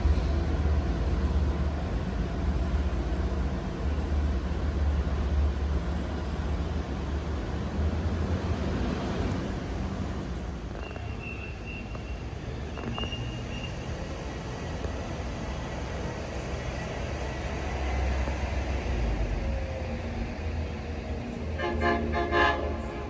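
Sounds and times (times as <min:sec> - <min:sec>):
low vehicle rumble: 0:00.0 - 0:23.0.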